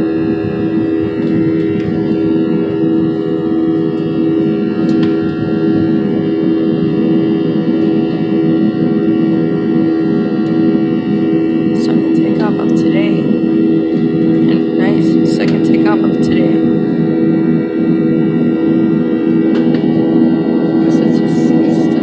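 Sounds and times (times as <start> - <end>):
jet engine cabin drone: 0.0 - 22.0
steady low hum: 0.0 - 22.0.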